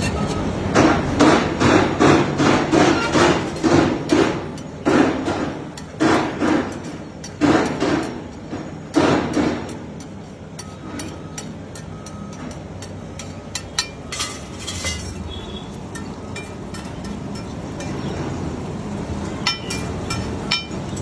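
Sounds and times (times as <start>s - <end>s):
cooking utensils knocking: 0.0s - 18.7s, 19.4s - 21.0s.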